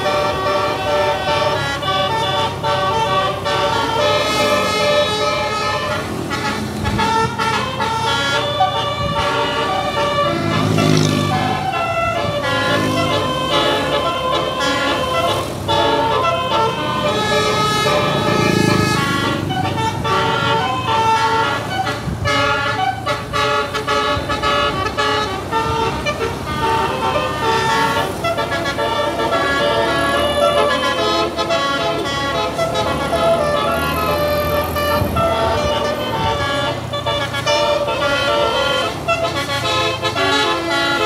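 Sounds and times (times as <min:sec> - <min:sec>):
multi-tone bus horn melody: 0:00.0 - 0:41.0.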